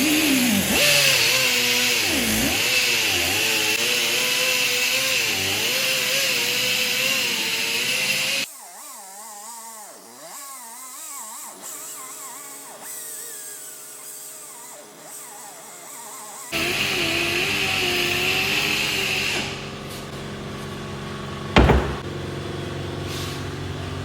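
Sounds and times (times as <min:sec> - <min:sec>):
electric car buffer motor whine: 0:00.0 - 0:20.8.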